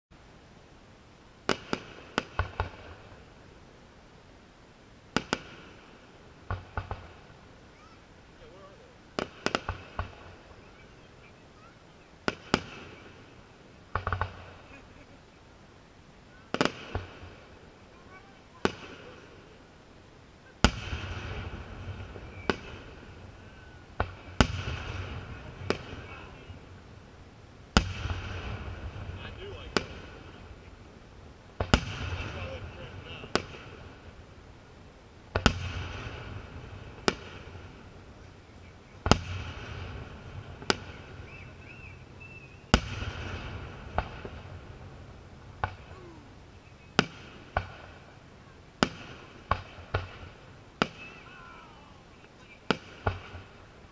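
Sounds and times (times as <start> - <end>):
distant fireworks bangs: 1.4 - 3.5, 5.1 - 15.5, 16.2 - 53.9.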